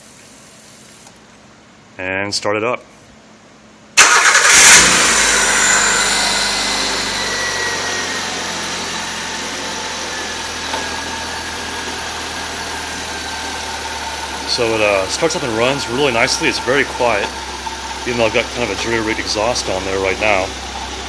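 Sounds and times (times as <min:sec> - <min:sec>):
car engine starting and idling: 0:04.0 - 0:21.0.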